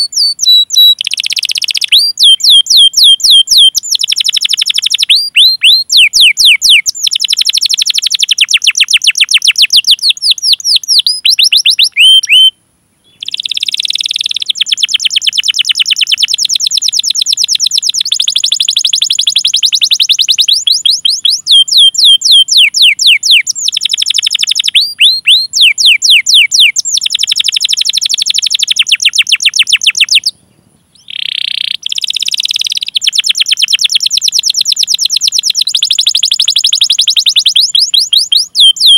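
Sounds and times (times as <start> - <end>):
canary singing rolling trills: 0.0 - 38.9.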